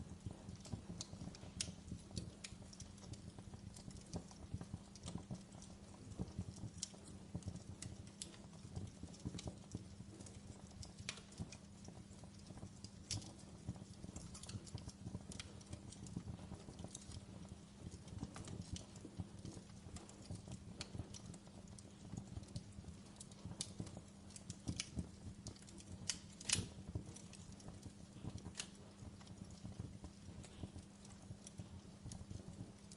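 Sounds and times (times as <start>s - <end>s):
logs crackling and popping: 0.0s - 32.9s
wood fire rumbling: 0.0s - 32.9s.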